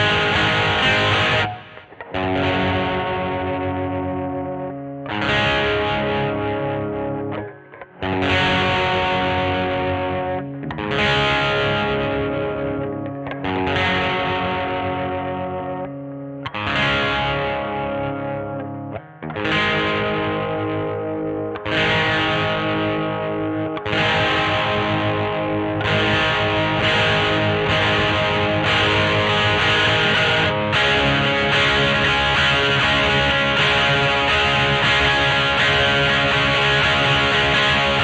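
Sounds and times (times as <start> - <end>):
distorted electric guitar chords: 0.0 - 38.0.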